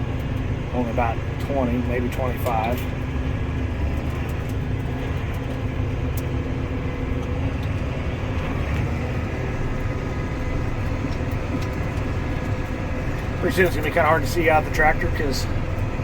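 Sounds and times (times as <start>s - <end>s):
tractor diesel engine rumble: 0.0s - 16.0s.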